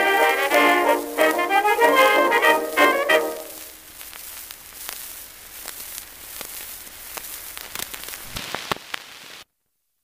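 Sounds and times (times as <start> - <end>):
record crackles and pops: 0.0 - 10.0
record surface hiss: 0.0 - 10.0.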